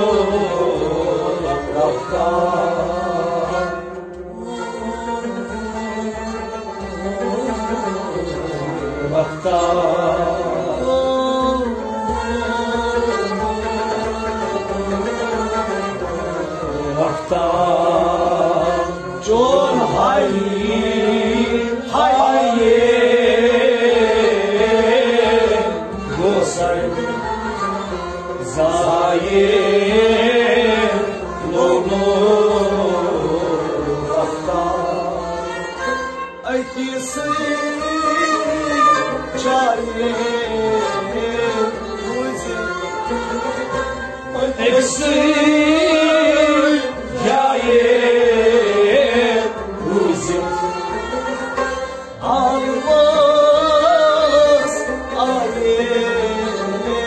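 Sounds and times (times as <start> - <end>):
man singing: 0.0 - 13.4, 14.4 - 43.5, 44.3 - 51.6, 52.2 - 57.0
harmonium: 0.0 - 57.0
rabab: 0.0 - 57.0.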